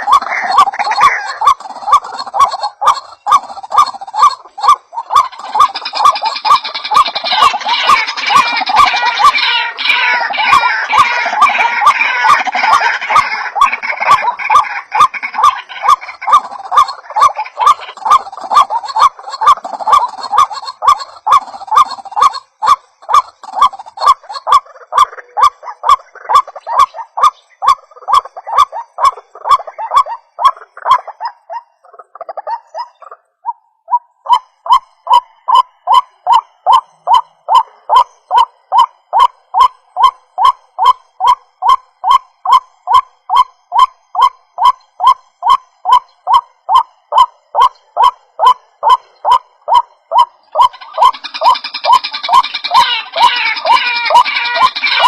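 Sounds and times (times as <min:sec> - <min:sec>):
bird harsh repeated calls: 0:00.0 - 0:55.0
overlapping bird calls: 0:00.0 - 0:55.0.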